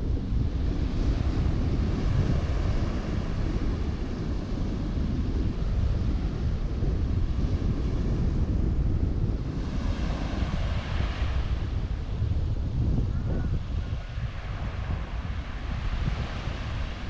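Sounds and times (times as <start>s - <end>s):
sea: 0.0s - 17.0s
wind buffeting microphone: 0.0s - 17.0s.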